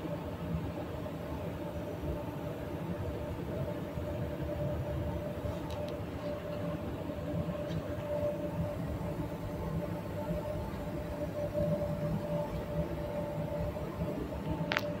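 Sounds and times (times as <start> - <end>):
faint hum: 0.0 - 15.0
ventilation fans low rumble: 0.0 - 15.0.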